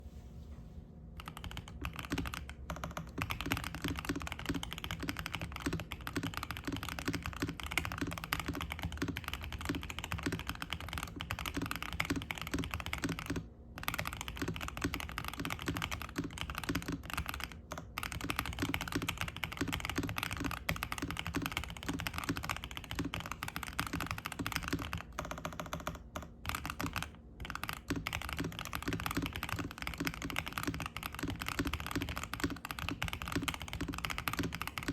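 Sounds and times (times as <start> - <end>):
fast typing on mechanical keyboard: 1.2 - 34.9.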